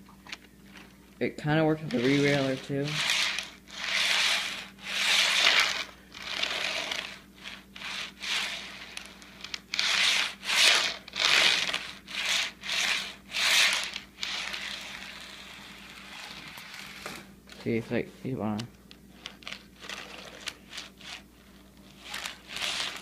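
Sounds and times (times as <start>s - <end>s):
soft steady noise: 0.0s - 23.0s
model train car scraping on track: 1.7s - 17.1s, 19.2s - 23.0s.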